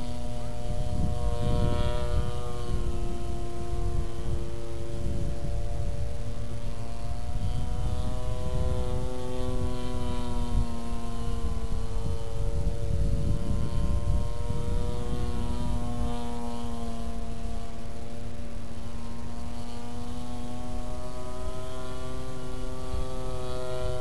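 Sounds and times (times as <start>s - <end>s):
constant low rumble: 0.0s - 24.0s
model airplane engine droning: 0.0s - 24.0s.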